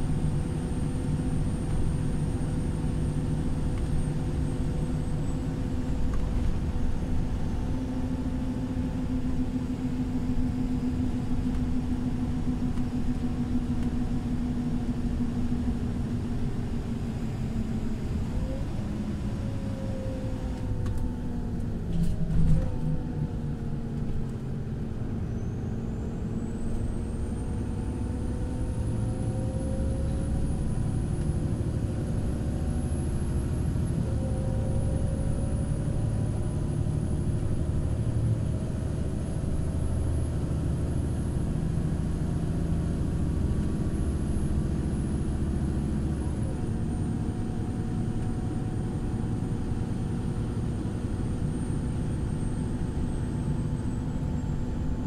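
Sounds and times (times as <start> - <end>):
bus engine drone with whine: 0.0 - 55.0.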